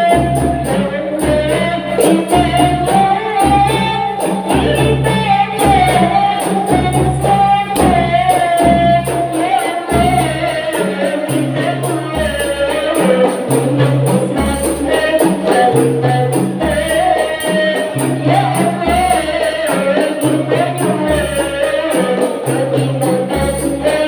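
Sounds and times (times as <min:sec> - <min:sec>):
woman singing into a microphone: 0:00.0 - 0:24.0.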